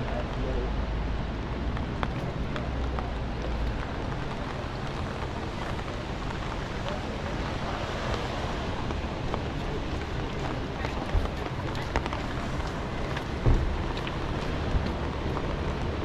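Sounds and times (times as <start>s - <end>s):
traffic noise: 0.0s - 16.0s
faint voices: 1.6s - 16.0s.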